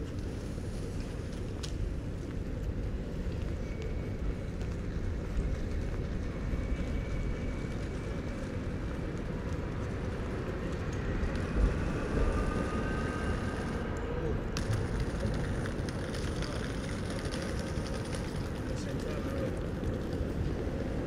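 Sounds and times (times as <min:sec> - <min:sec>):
rail vehicle rumbling: 0:00.0 - 0:21.0
faint high whine: 0:00.1 - 0:19.6.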